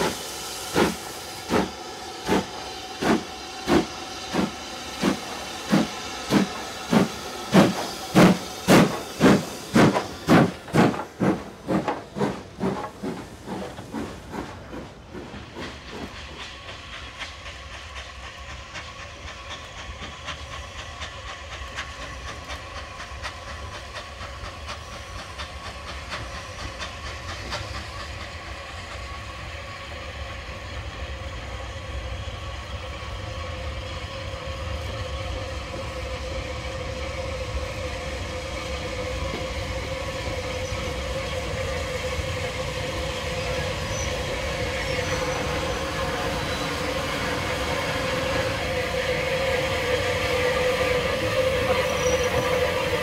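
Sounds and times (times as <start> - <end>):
steam locomotive arriving: 0.0 - 53.0.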